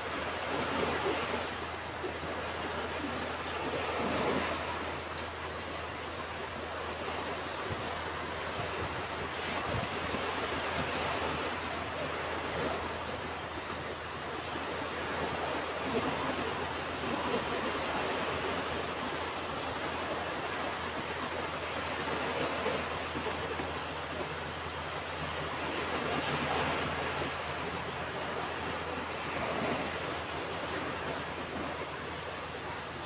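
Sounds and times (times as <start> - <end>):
ocean waves washing onto beach: 0.0 - 33.0.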